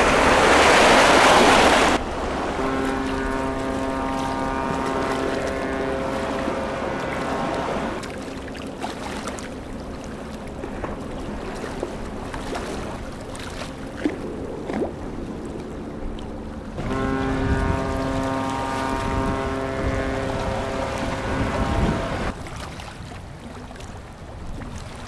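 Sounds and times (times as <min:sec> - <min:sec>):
boat engine drone: 0:00.0 - 0:25.0
rushing water: 0:00.0 - 0:25.0
wind: 0:00.0 - 0:25.0.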